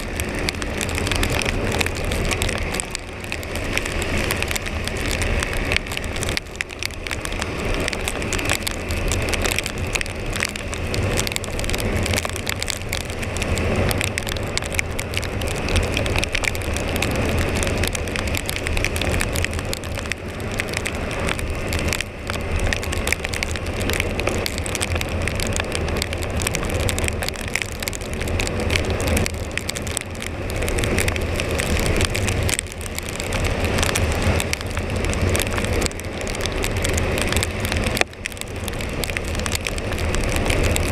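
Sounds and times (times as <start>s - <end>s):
rain crackling on microphone: 0.0s - 40.9s.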